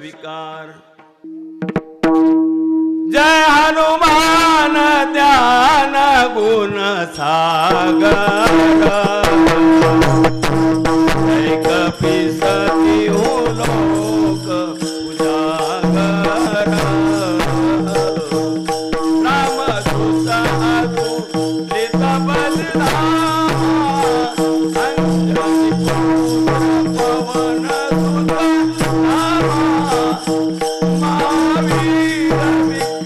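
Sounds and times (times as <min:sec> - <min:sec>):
percussion strokes: 0:03.2 - 0:33.0
wavering devotional melody: 0:06.1 - 0:33.0.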